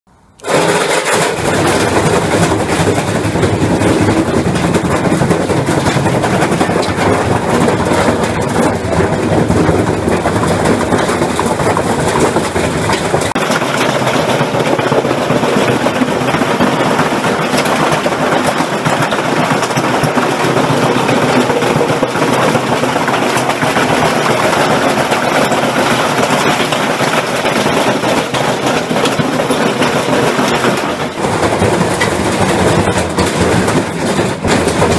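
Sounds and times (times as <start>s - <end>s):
washing machine spinning: 0.2s - 34.9s
brick banging in washing machine: 0.4s - 34.9s.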